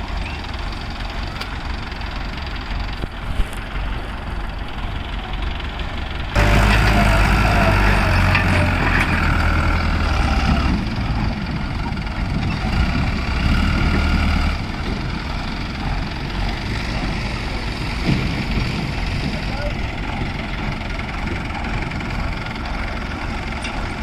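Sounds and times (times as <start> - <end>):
tractor engines droning: 0.0 - 24.0.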